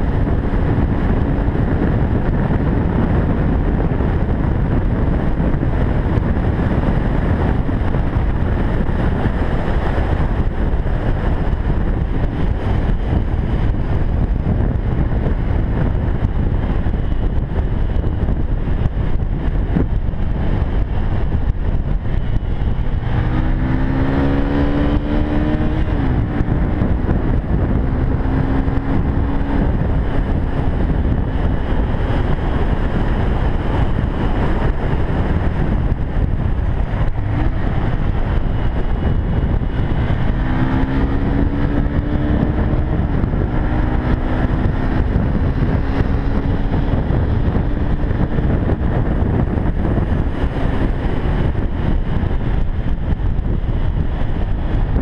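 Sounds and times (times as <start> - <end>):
motorcycle engine: 0.0 - 55.0
wind rush on microphone: 0.0 - 55.0.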